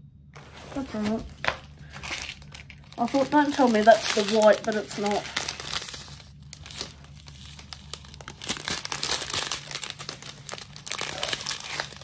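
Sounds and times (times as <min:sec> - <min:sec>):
plastic bags crinkling: 0:00.4 - 0:12.0.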